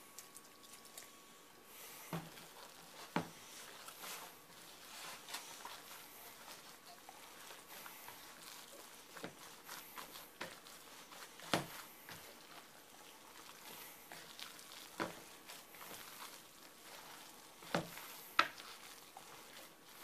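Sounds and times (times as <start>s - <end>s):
hand squelching stuffing mix: 0.0s - 20.0s.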